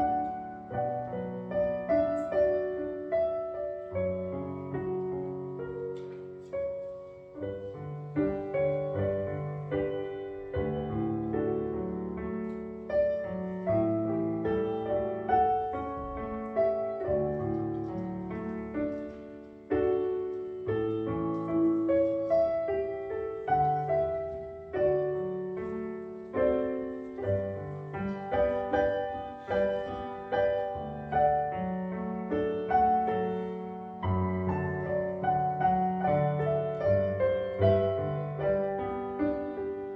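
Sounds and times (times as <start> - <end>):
slow solo piano piece: 0.0 - 39.9.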